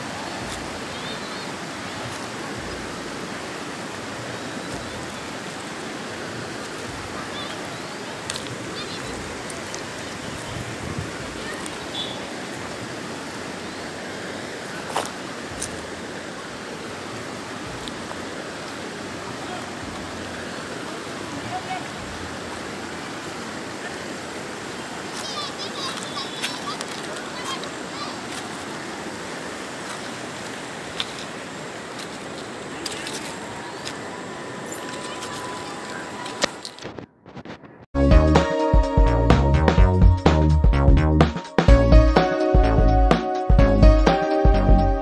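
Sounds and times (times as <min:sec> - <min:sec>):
river water rushing: 0:00.0 - 0:36.8.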